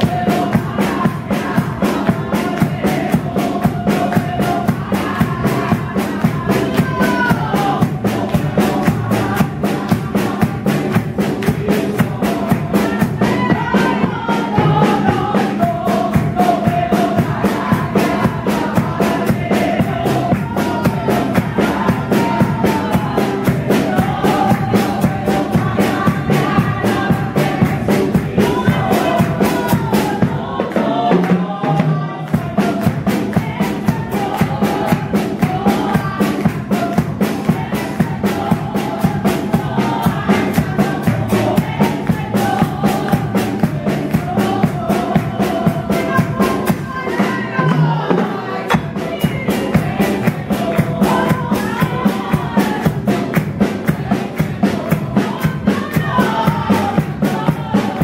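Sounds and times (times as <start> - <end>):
congregation singing along: 0.0 - 58.0
drum kit fast steady beat: 0.0 - 58.0
woman singing into a microphone: 0.0 - 58.0.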